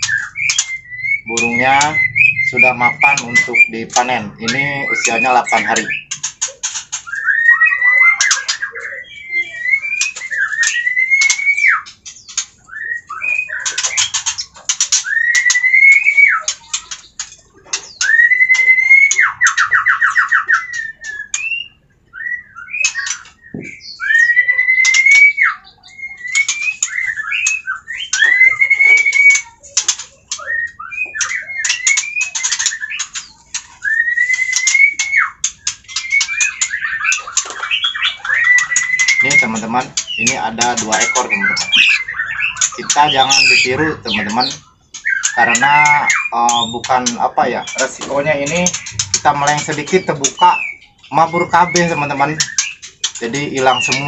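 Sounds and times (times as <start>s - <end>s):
bird whistled call: 0.0s - 16.9s, 17.8s - 29.6s, 30.3s - 54.0s
bird clicking notes: 0.0s - 25.4s, 26.1s - 54.0s.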